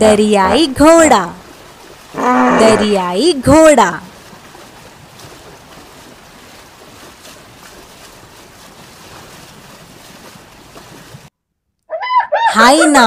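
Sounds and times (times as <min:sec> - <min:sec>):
water splashing: 0:00.0 - 0:11.3.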